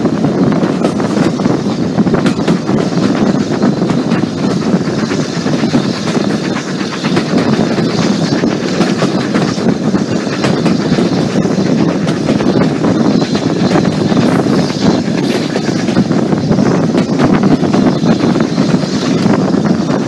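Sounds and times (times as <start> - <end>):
rail clicks: 0.0 - 20.0
train wheels rumbling on rails: 0.0 - 20.0.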